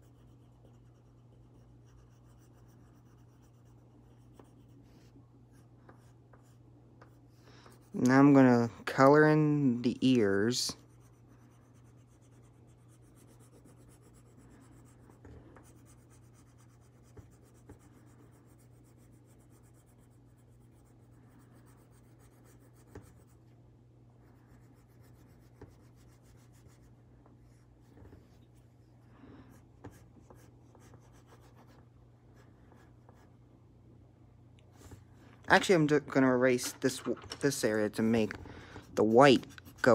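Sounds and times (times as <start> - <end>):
colored pencil shading on paper: 0.0 - 23.5, 24.2 - 28.8, 29.5 - 33.3, 37.5 - 39.9
low steady hum: 0.0 - 39.9.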